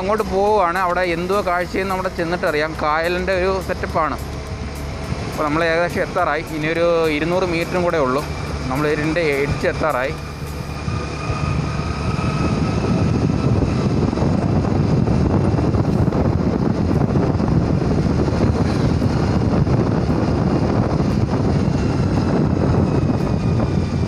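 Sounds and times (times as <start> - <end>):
wind on microphone: 0.0 - 24.0
scooter engine running: 1.8 - 24.0.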